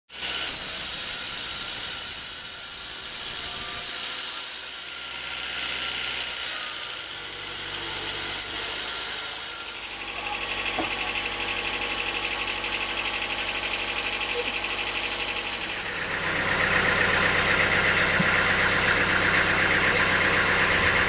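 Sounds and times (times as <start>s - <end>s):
saw blade cutting wood: 0.1s - 21.0s
mill motor drone: 0.2s - 21.0s.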